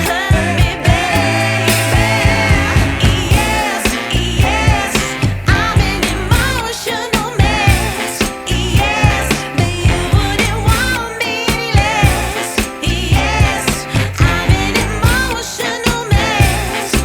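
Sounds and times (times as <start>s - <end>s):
person singing: 0.0s - 17.0s
pop-soul song: 0.0s - 17.0s
steady drum beat: 0.0s - 17.0s.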